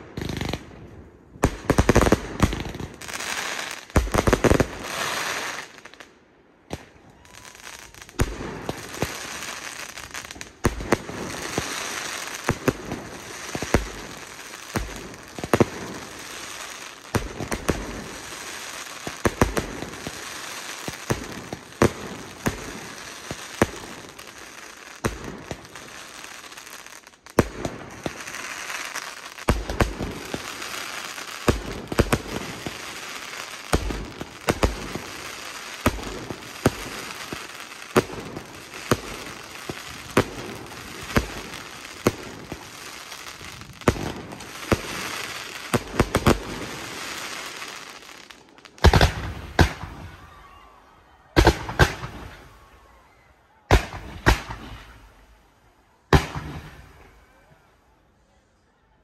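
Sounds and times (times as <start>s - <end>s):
crackling firework stars: 0.0s - 58.8s.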